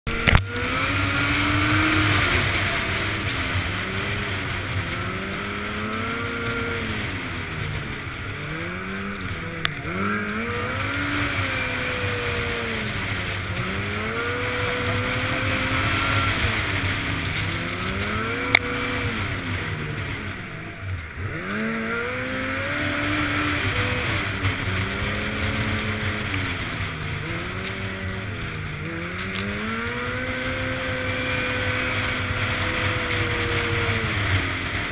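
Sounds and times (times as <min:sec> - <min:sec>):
snowmobile engine revving: 0:00.1 - 0:34.9.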